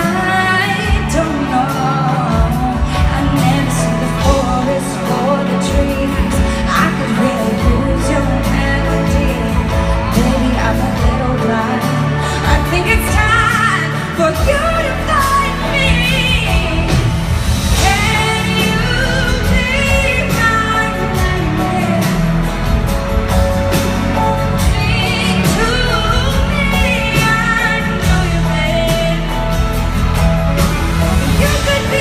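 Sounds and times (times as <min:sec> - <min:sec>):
live band accompaniment: 0:00.0 - 0:32.0
woman singing: 0:00.0 - 0:32.0.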